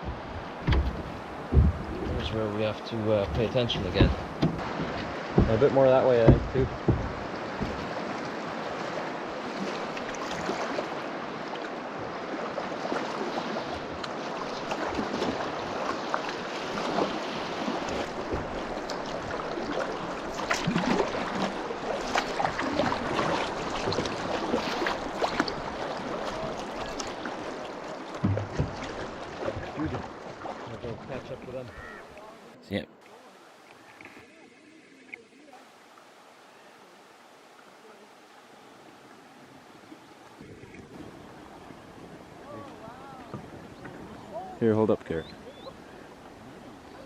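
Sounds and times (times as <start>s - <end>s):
river water rushing and splashing: 0.0s - 47.0s.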